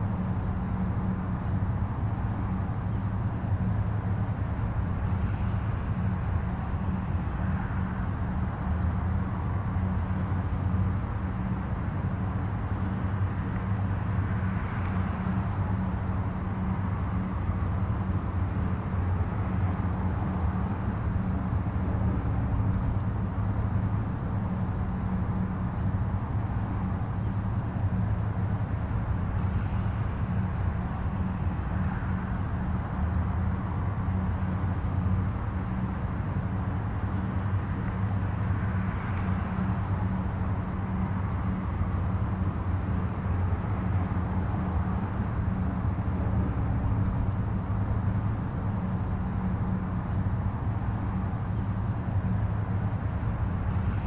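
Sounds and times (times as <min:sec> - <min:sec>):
distant highway traffic rumble: 0:00.0 - 0:54.0
vehicles passing: 0:00.0 - 0:54.0.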